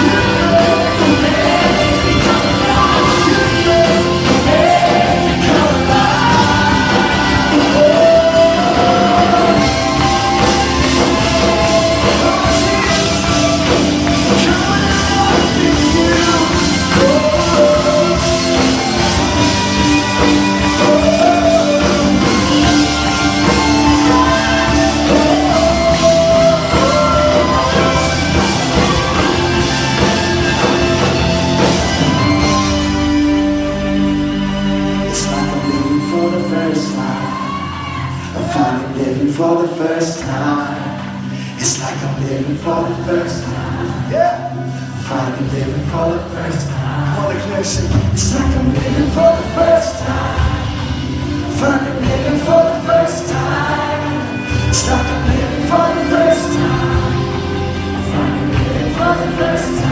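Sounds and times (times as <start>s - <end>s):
live rock-style worship band: 0.0s - 59.9s.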